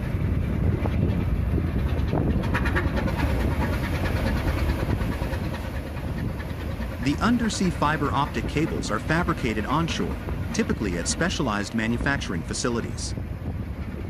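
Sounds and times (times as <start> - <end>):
machinery low rumble: 0.0 - 14.0.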